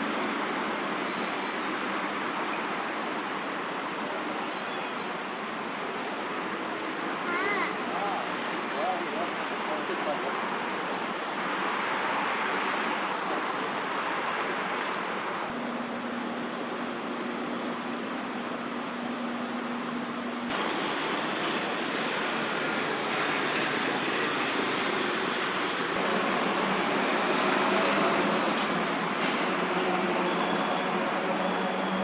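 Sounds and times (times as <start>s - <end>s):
city traffic: 0.0s - 32.0s.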